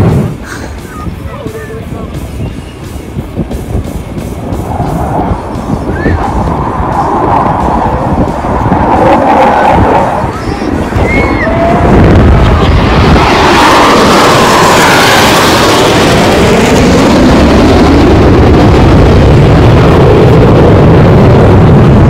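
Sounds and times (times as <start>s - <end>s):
jet aircraft roaring past: 0.0s - 22.0s.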